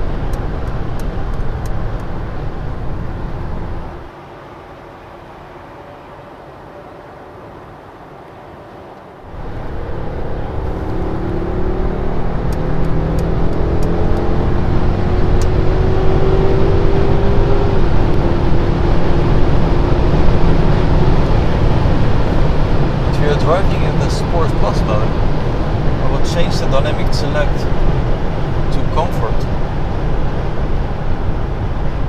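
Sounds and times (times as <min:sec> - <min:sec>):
car engine pulling hard: 0:00.0 - 0:04.2, 0:09.2 - 0:32.0
road and wind noise: 0:00.0 - 0:32.0.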